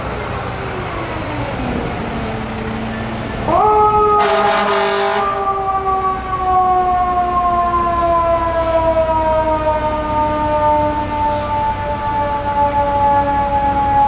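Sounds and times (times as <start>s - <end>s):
mechanical siren winding down: 0.4s - 14.0s.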